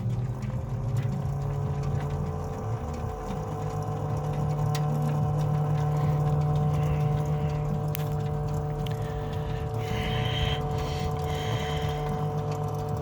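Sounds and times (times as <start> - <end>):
gurgling churning with steady whine: 0.0 - 13.0.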